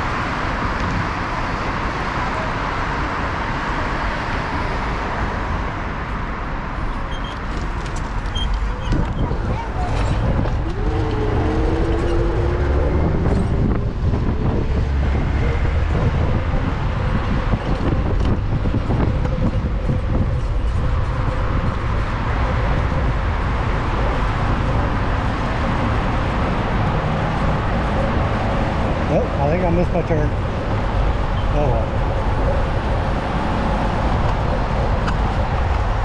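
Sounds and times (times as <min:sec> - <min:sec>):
street traffic noise: 0:00.0 - 0:36.0.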